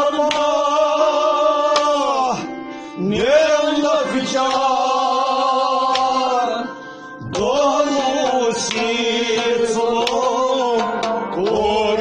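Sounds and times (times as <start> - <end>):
instrumental accompaniment: 0.0 - 12.0
person singing long notes: 0.0 - 12.0.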